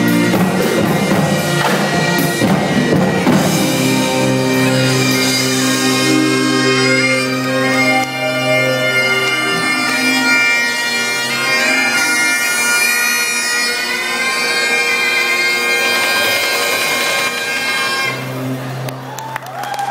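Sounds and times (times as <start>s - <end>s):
bagpipes playing: 0.0s - 18.9s.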